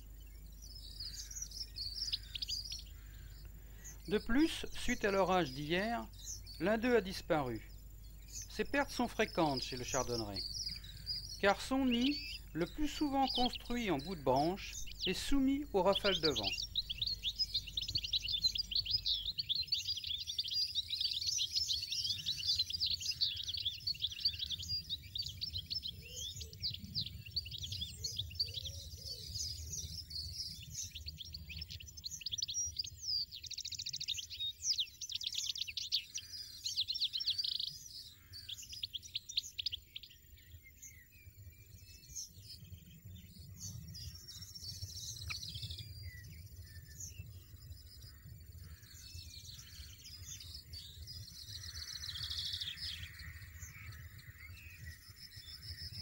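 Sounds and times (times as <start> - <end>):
nestlings begging chirps: 0.0 - 56.0.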